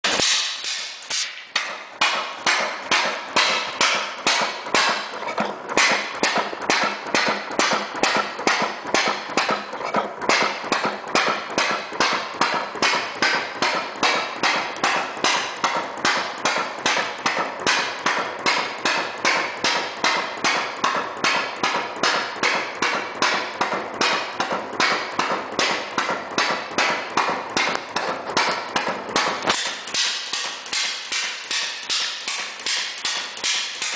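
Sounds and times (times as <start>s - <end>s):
single-cylinder engine firing beats: 0.0s - 33.9s.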